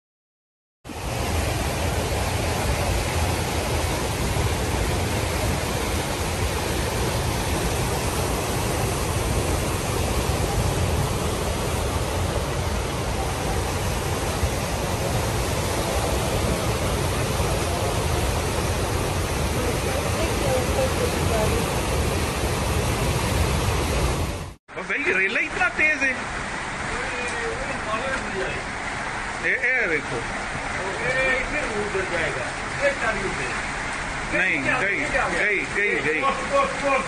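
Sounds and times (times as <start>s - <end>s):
floodwater rushing: 0.9s - 37.0s.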